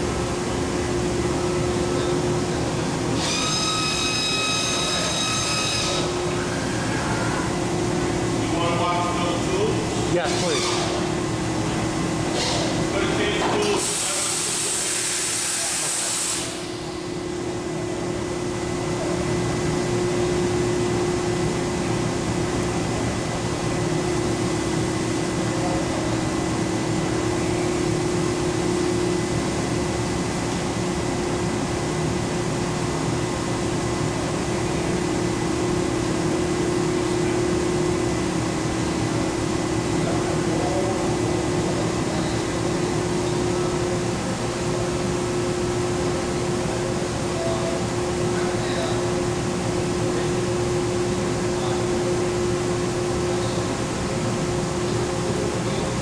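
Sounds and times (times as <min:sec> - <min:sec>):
cnc router humming and whining: 0:00.0 - 0:56.0.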